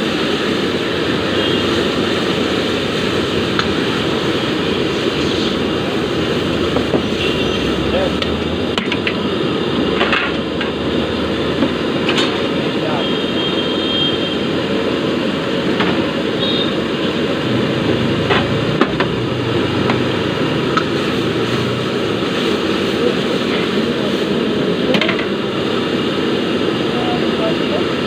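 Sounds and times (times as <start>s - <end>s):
busy street roar: 0.0s - 28.0s.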